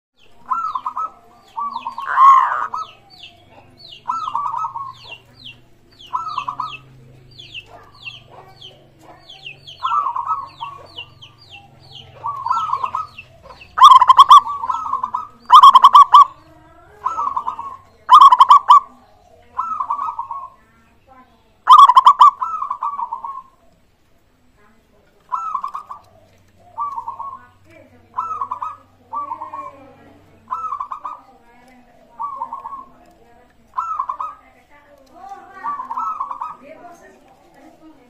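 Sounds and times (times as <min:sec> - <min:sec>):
doves cooing: 0:00.2 - 0:38.0
small bird chirping: 0:00.2 - 0:38.0.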